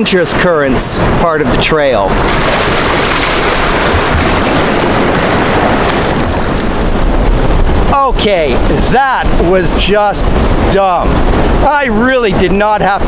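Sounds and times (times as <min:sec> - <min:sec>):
surf rushing at shore: 0:00.0 - 0:13.0
wind buffeting microphone: 0:00.0 - 0:13.0.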